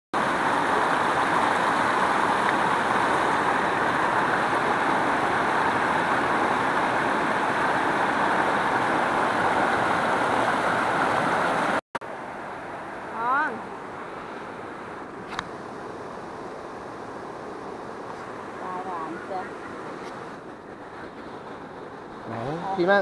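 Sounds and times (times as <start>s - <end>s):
stream water rushing over rocks: 0.2s - 23.0s.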